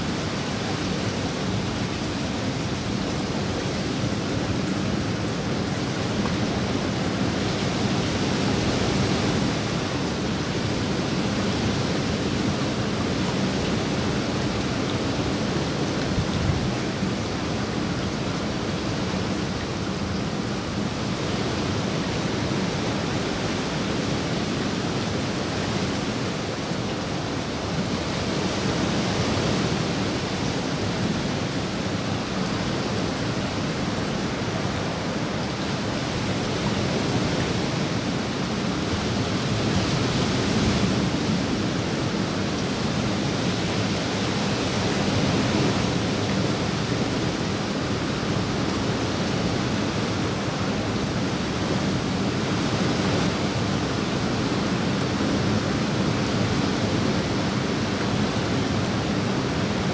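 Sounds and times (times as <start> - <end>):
rain falling on pool and foliage: 0.0 - 59.9.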